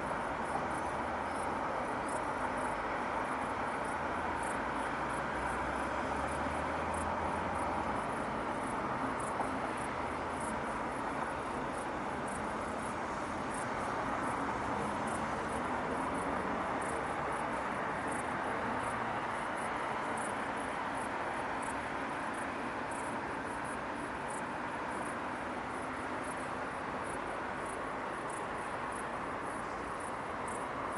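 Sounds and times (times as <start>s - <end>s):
crickets chirping: 0.0s - 30.9s
distant city traffic hum: 0.0s - 30.9s.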